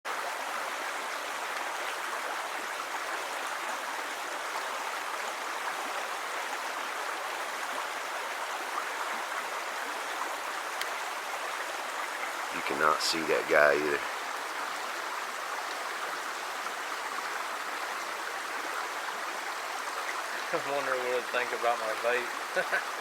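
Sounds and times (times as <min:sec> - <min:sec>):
flowing stream water: 0:00.1 - 0:23.0.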